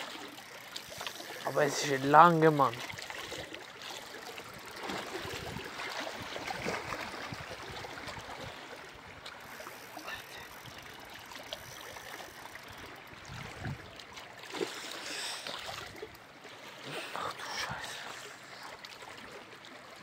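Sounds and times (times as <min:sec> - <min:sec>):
waves lapping against rocks: 0:00.0 - 0:20.0.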